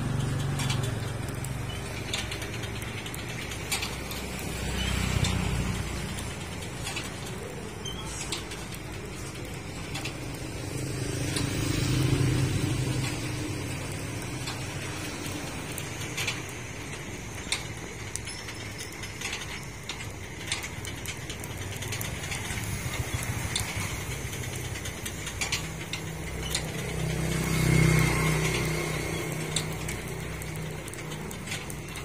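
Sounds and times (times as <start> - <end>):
rotisserie motor humming: 0.0 - 32.0
sharp clicks and ticks: 0.0 - 32.0.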